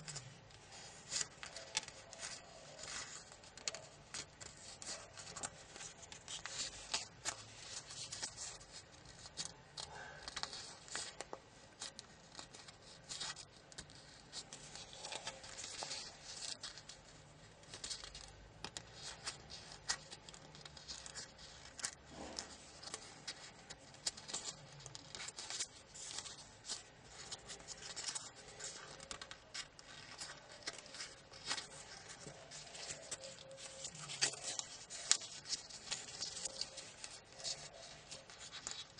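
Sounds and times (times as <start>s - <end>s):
paper crinkling and crackling: 0.0s - 38.9s.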